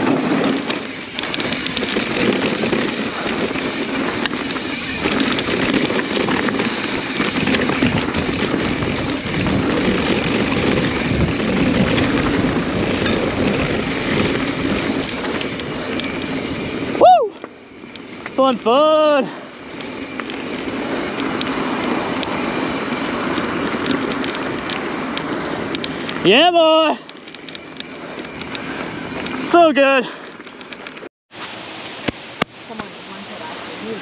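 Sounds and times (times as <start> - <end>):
bike rattling and clicking: 0.0 - 31.1
tyre and trail noise: 0.0 - 34.0.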